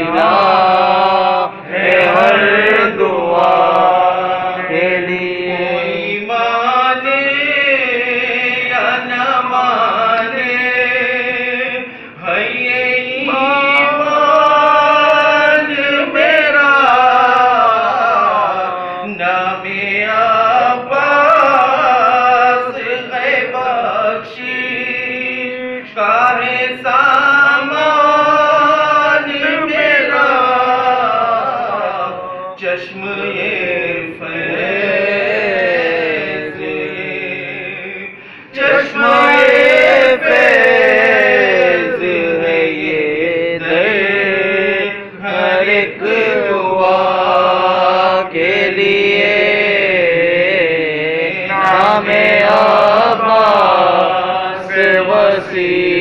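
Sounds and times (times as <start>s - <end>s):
man chanting: 0.0s - 56.0s.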